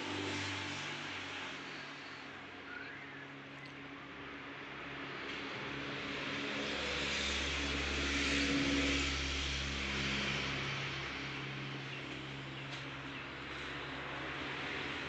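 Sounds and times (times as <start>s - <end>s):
engine passing by: 0.0s - 2.7s, 4.2s - 15.0s.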